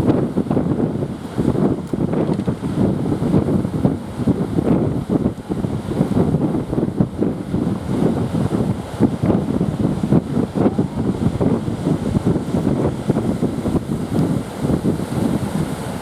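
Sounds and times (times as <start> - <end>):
heavy surf rumble: 0.0 - 16.0
wind buffeting microphone: 0.0 - 16.0.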